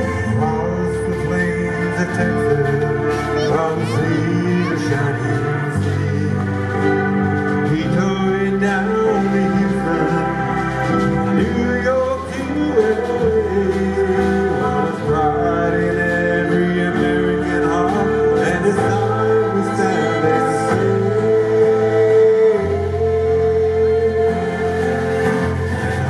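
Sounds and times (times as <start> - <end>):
live band playing: 0.0 - 26.0
person singing long notes: 0.0 - 26.0.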